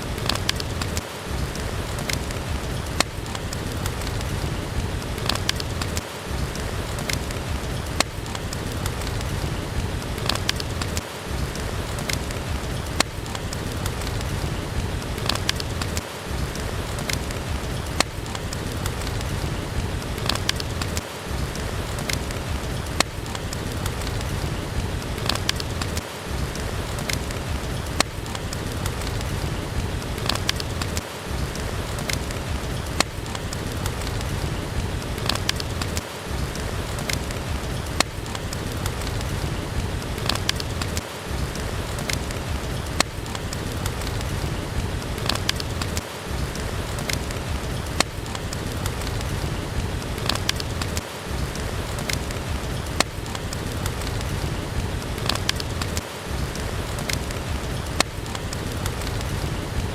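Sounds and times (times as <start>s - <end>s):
steady rain: 0.0s - 59.9s
wood fire crackling and popping: 0.0s - 59.9s.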